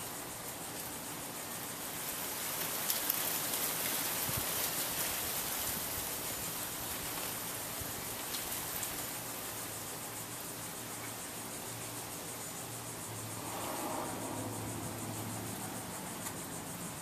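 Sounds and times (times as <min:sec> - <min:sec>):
small ticks: 0:00.0 - 0:14.1, 0:14.7 - 0:17.0
ceiling fan air hiss: 0:00.0 - 0:17.0.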